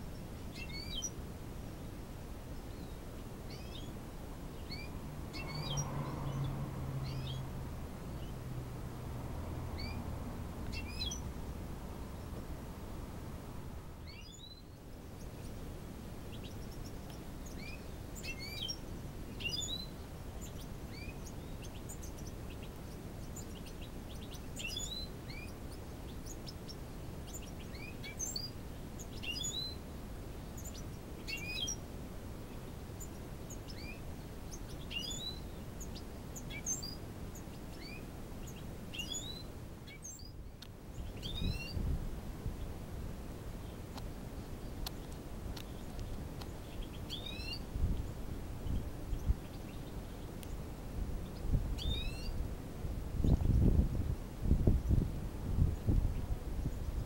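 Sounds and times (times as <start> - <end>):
small birds chirping: 0.0 - 52.5, 53.1 - 57.0.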